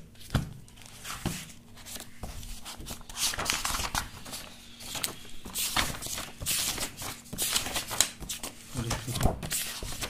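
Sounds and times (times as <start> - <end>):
book pages turning: 0.2 - 10.0.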